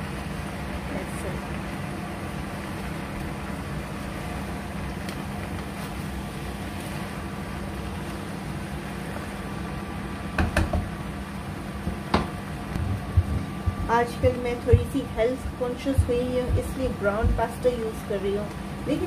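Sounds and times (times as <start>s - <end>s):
kitchen appliance hum: 0.0s - 19.0s.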